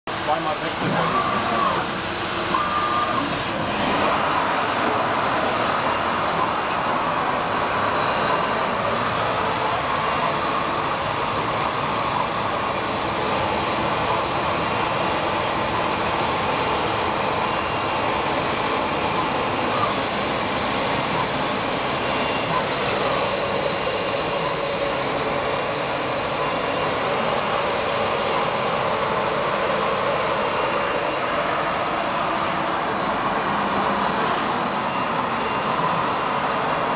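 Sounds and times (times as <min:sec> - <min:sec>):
woodworking machine running: 0:00.1 - 0:36.9.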